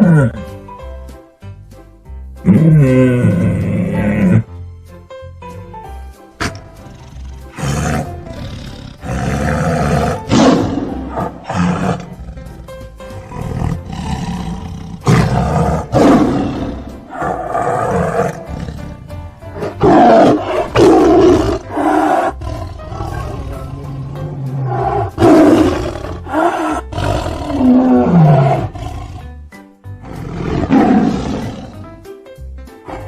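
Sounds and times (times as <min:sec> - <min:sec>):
tiger roaring: 0:00.0 - 0:00.5, 0:02.4 - 0:04.5, 0:06.4 - 0:29.4, 0:30.0 - 0:32.0.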